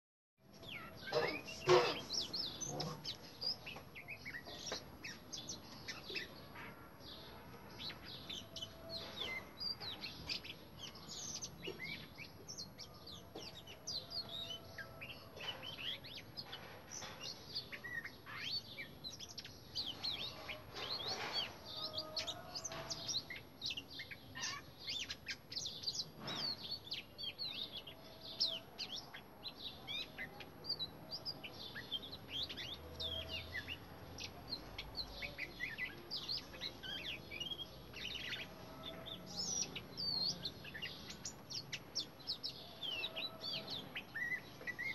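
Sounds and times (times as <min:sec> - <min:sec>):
bird singing: 0:00.4 - 0:44.9.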